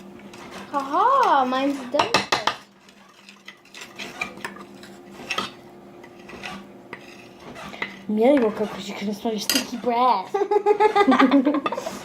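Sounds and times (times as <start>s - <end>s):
utensil clinking and scraping in bowl: 0.2s - 10.4s.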